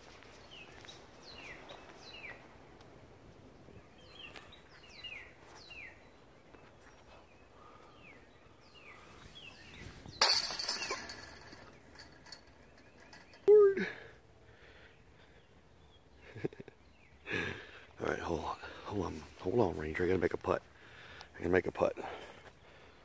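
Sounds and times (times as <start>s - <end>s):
songbird chirping: 0.0s - 10.4s, 11.0s - 23.0s
faint outdoor background noise: 0.0s - 23.0s.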